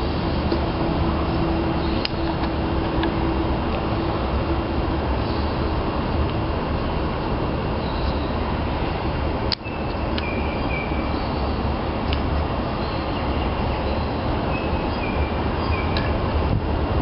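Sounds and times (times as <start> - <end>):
rushing noise with low rumble: 0.0 - 17.0.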